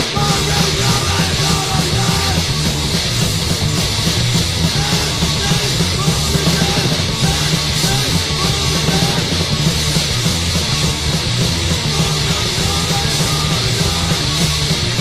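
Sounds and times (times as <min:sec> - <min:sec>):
punk band playing: 0:00.0 - 0:15.0.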